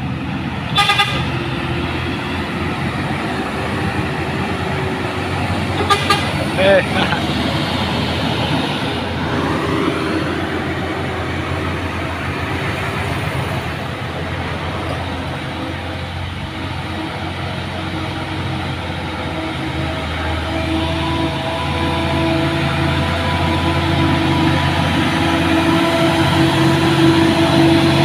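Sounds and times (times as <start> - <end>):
diesel truck engines droning: 0.0 - 28.0
rising engine whine: 0.0 - 28.0.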